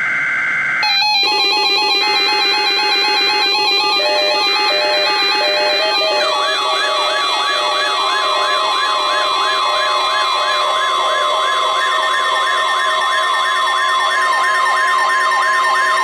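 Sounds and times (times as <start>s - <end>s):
other steady tones: 0.4s - 15.6s
falling siren-like sweep: 0.8s - 16.0s.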